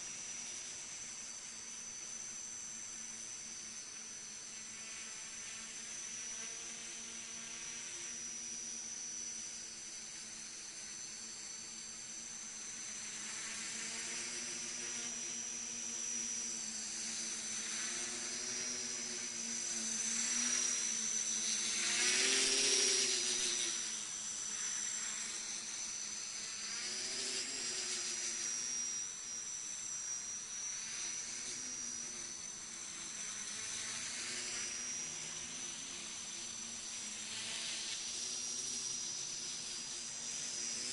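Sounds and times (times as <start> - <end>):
quadcopter propellers buzzing: 0.0 - 40.9.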